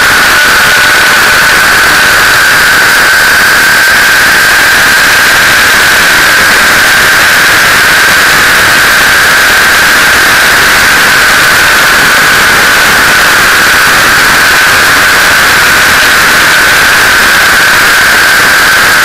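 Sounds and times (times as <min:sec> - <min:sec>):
helicopter rotor rushing noise: 0:00.0 - 0:19.0
high wavering whine: 0:00.0 - 0:19.0.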